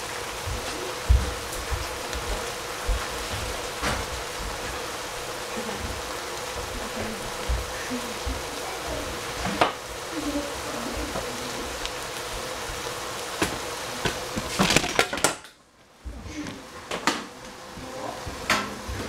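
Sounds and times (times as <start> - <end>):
vegetables sizzling in a pan: 0.0 - 19.0.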